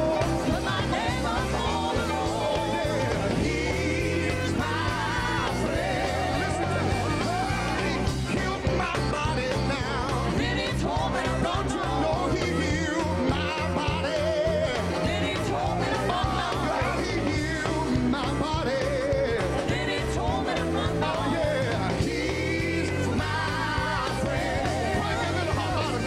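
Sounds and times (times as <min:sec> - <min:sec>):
band with pulsing bass beat: 0:00.0 - 0:26.0
gospel singing with vibrato: 0:00.0 - 0:26.0.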